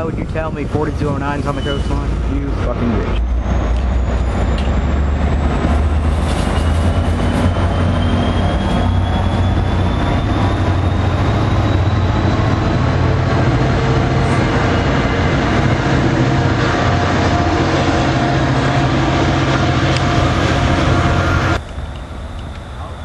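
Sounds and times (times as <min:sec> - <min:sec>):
train coaches rumbling past: 0:00.0 - 0:23.0.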